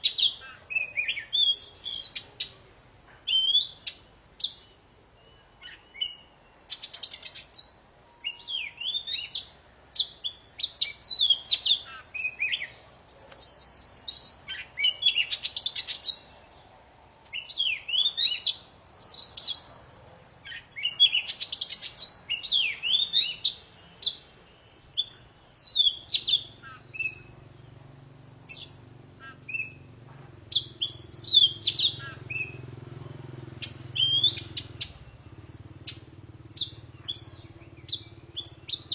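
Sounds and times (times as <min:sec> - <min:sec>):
bird singing whistles and chirps: 0:00.0 - 0:16.3, 0:17.3 - 0:19.7, 0:20.4 - 0:38.9.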